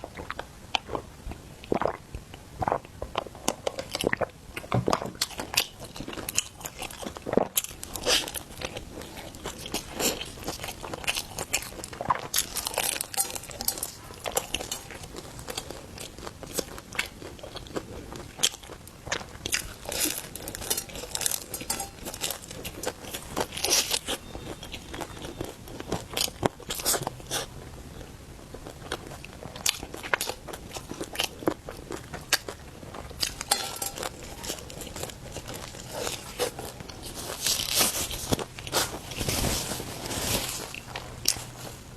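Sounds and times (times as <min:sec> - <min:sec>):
crunchy biting and chewing: 0:00.0 - 0:41.8.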